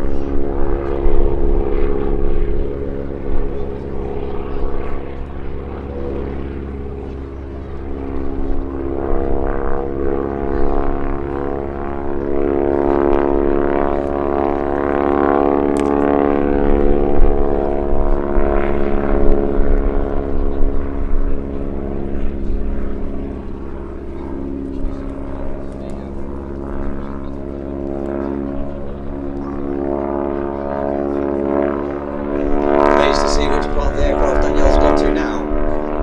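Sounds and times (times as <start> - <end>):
biplane engine droning in flight: 0.0 - 36.0.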